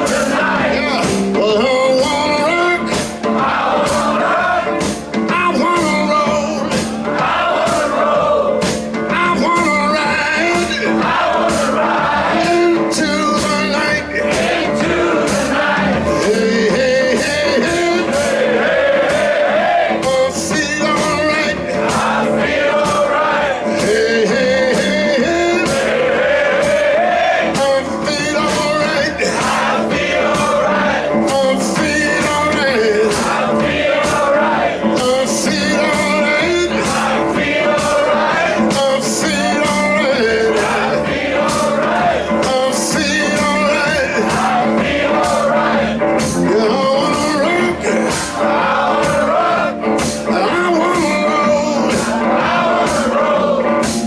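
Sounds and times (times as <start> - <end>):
person singing: 0.0 - 6.9, 7.7 - 18.4, 19.9 - 25.9, 26.6 - 54.0
blues-rock band playing: 0.0 - 54.0
steady drum beat: 0.0 - 54.0.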